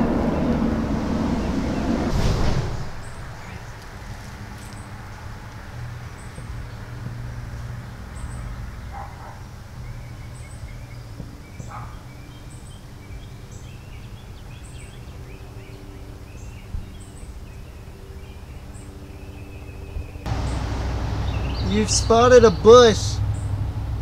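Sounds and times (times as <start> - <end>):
low hum: 0.0 - 24.0
bird chirping: 2.9 - 5.3, 6.0 - 24.0
birds warbling: 2.9 - 24.0.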